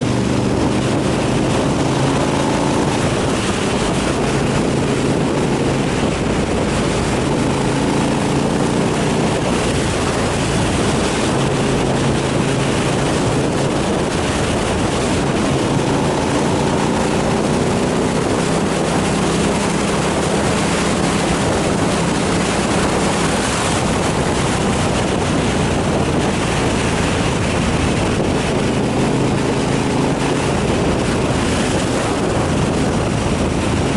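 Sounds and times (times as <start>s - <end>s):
motorcycle engine running: 0.0s - 33.9s
wind rush on microphone: 0.0s - 33.9s.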